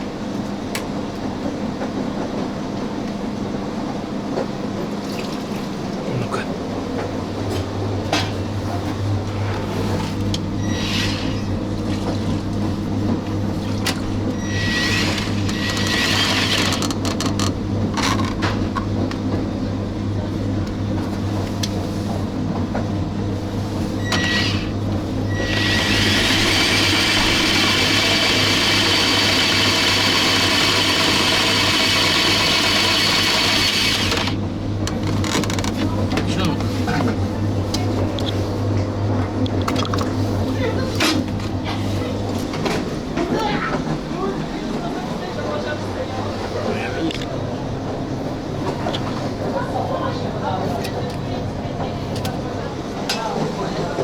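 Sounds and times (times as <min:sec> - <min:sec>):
drain machine motor humming: 0:04.8 - 0:21.5, 0:22.2 - 0:54.0.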